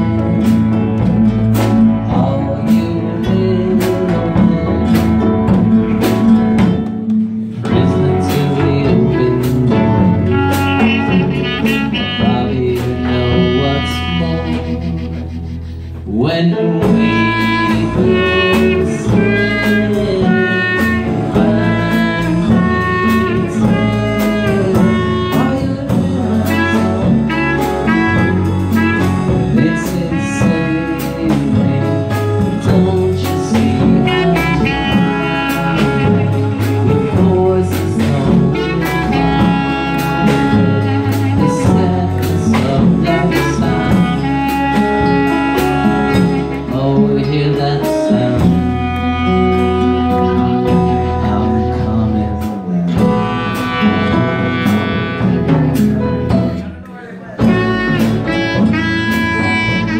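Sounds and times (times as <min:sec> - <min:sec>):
clarinet melody: 0:00.0 - 0:59.9
drum kit: 0:00.0 - 0:59.9
electric bass: 0:00.0 - 0:59.9
strummed acoustic guitar: 0:00.0 - 0:59.9.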